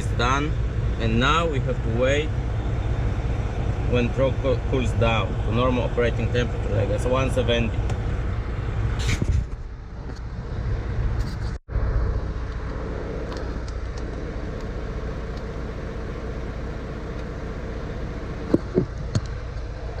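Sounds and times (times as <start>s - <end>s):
diesel truck engine idling: 0.0s - 9.0s, 9.7s - 20.0s.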